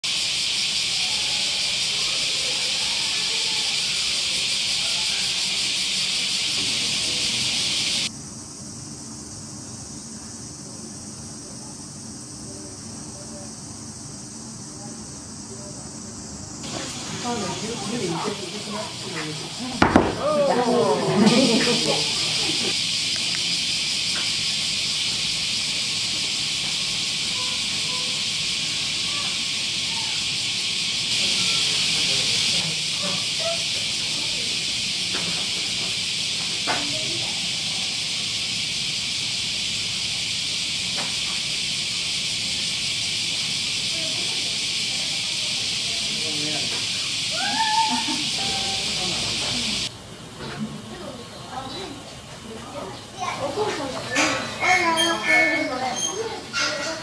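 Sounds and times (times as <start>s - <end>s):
cicada chorus: 0.0s - 57.0s
faint high insect drone: 0.0s - 57.0s.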